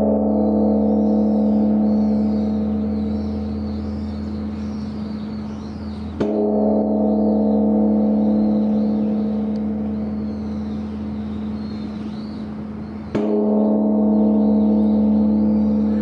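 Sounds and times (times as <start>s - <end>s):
large temple bell ringing: 0.0s - 16.0s.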